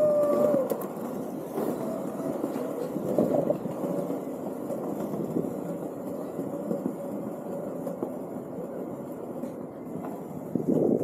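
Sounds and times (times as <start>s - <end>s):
skateboard wheels rolling on stone: 0.0s - 11.0s.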